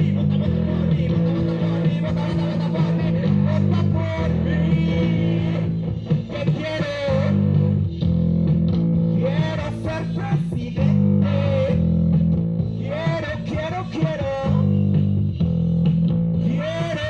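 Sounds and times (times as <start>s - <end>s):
rock music with electric guitar: 0.0s - 17.0s.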